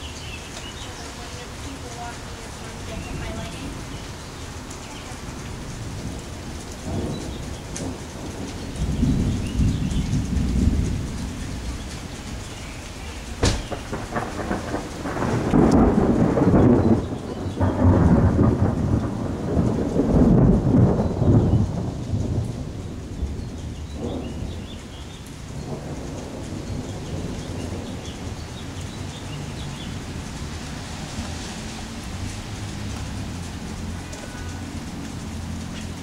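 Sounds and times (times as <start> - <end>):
steady rain: 0.0 - 36.0
rolling thunder: 2.0 - 36.0.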